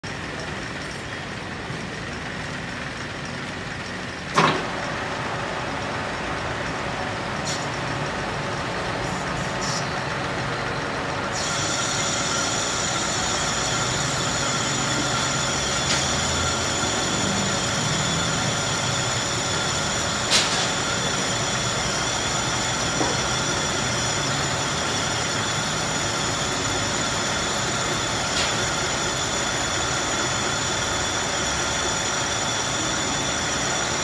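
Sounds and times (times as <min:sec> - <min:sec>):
lathe machine noise: 0:00.0 - 0:34.0
high whining tones: 0:06.6 - 0:34.0.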